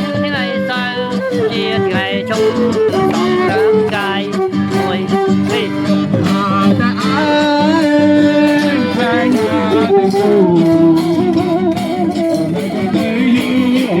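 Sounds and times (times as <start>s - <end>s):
person singing: 0.0s - 14.0s
plucked guitar: 0.0s - 14.0s.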